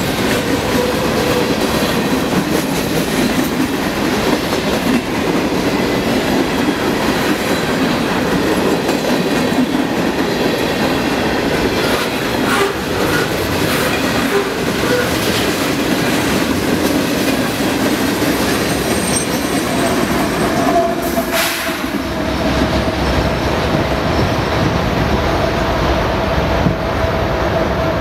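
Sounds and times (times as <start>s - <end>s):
train wheels clacking over rail joints: 0.0s - 24.8s.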